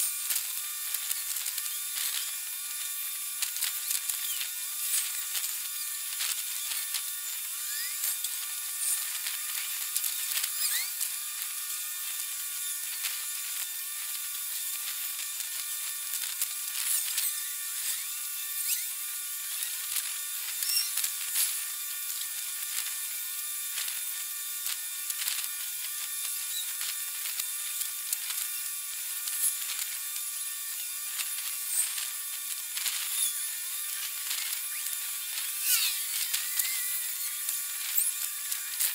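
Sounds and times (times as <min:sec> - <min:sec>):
small clicks: 0:00.0 - 0:11.7, 0:12.6 - 0:23.1, 0:23.7 - 0:38.9
high-pitched buzz: 0:00.0 - 0:38.9.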